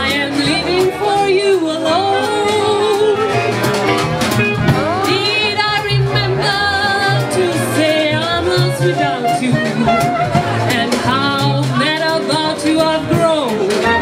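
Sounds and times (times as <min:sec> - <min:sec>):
woman singing into a microphone: 0:00.0 - 0:03.4, 0:05.0 - 0:14.0
accordion: 0:00.0 - 0:14.0
drum kit steady beat: 0:00.0 - 0:14.0
plucked upright double bass: 0:00.0 - 0:14.0.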